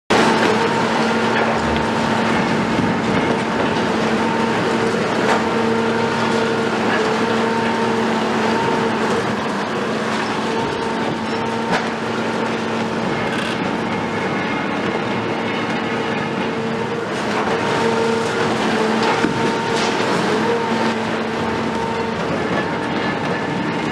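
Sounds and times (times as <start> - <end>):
excavator engine and hydraulics whine: 0.1 - 23.9.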